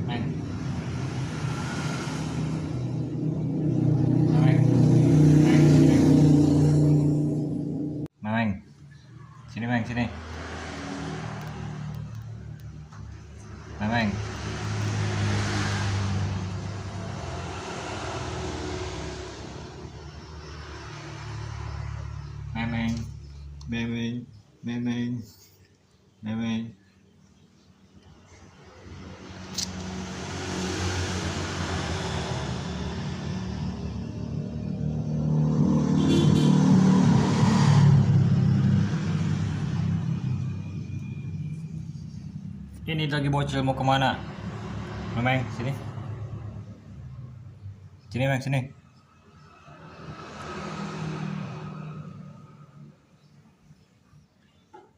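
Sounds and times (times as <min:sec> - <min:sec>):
vehicle engine passing by: 0:00.0 - 0:08.1, 0:08.9 - 0:25.4, 0:28.0 - 0:53.4.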